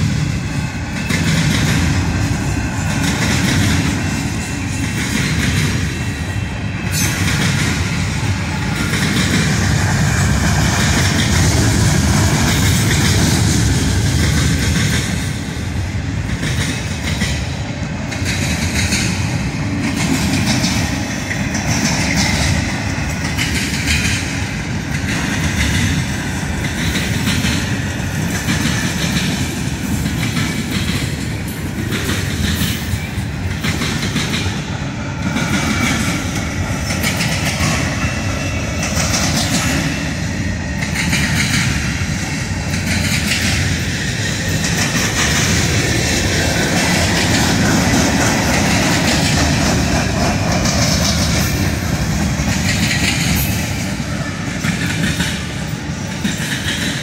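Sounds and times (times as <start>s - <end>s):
rumble of wheels on rails: 0.0s - 57.0s
wheels clacking over rail joints: 0.0s - 57.0s.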